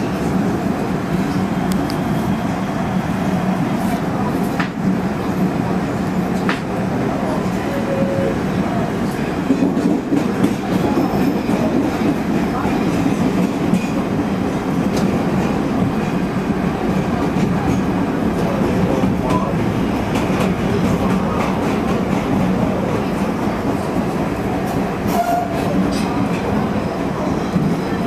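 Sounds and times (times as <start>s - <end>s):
subway train running noise: 0.0s - 28.0s.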